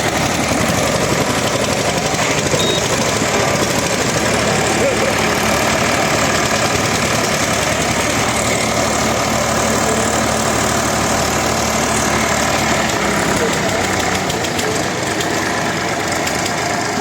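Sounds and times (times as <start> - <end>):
diesel tractor engines running: 0.0 - 17.0.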